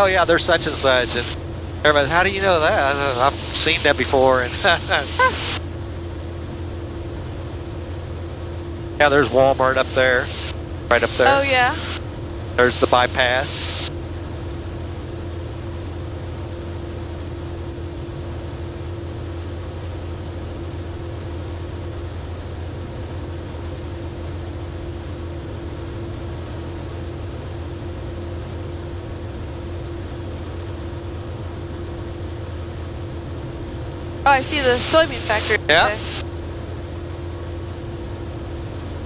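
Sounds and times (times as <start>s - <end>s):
light aircraft engine drone: 0.0s - 39.0s.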